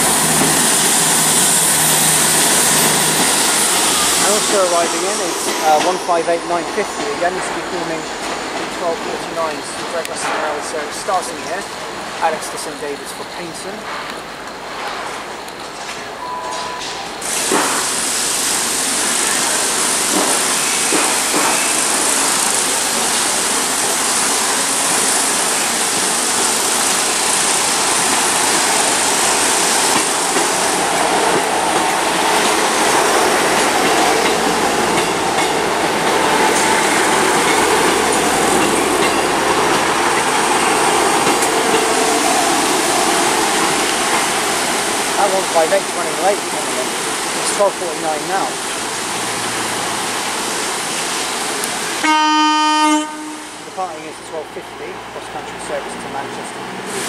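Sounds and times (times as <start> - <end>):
train hiss and engine noise: 0.0 - 57.0.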